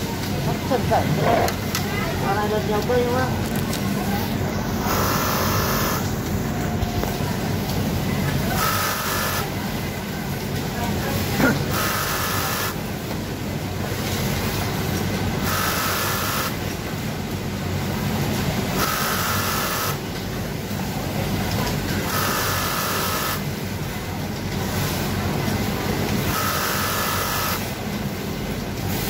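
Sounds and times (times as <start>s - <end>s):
factory machine hum: 0.0s - 29.0s.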